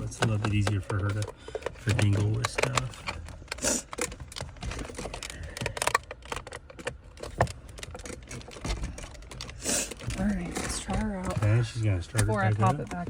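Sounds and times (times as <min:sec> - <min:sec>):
plastic connector clicks and rattles: 0:00.0 - 0:13.0.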